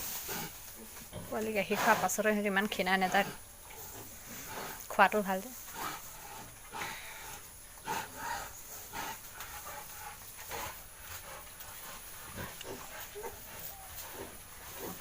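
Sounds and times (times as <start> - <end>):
sow grunting: 0.2 - 5.0, 5.7 - 15.0.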